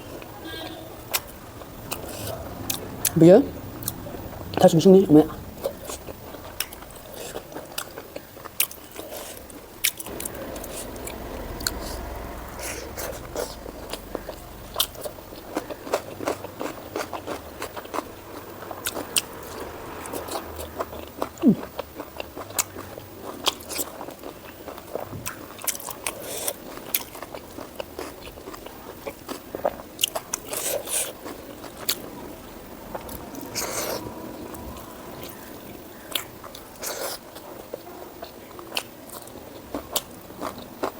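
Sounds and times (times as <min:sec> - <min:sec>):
chewing with wet mouth smacks: 0:01.1 - 0:04.7, 0:05.3 - 0:40.9.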